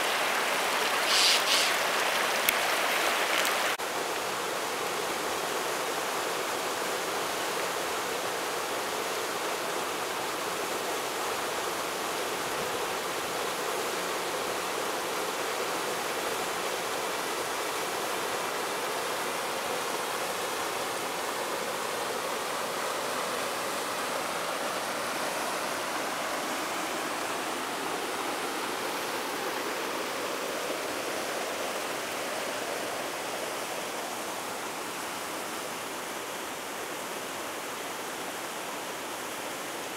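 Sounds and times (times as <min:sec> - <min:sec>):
river water rushing over weir: 0:00.0 - 0:39.9.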